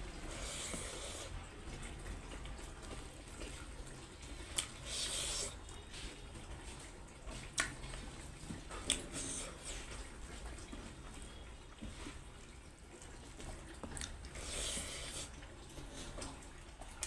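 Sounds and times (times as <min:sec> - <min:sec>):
wet chewing and mouth sounds: 0:00.0 - 0:17.0.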